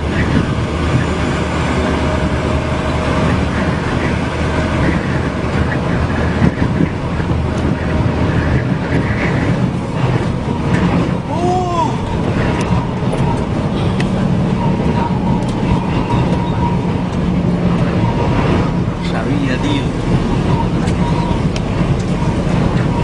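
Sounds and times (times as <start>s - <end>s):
low vehicle engine hum: 0.0s - 23.0s
strong wind blowing: 0.0s - 23.0s.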